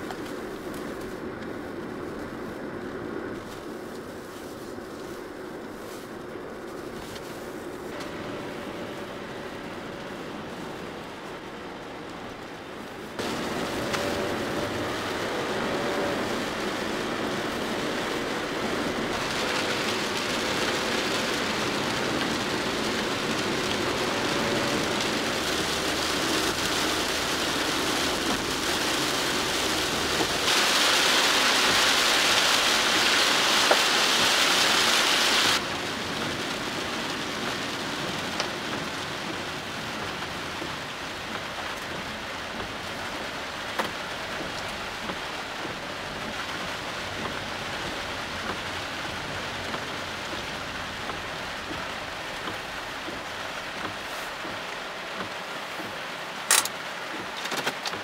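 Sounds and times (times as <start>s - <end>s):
heavy rain on car windshield: 0.0s - 58.0s
van driving on wet road: 0.0s - 58.0s.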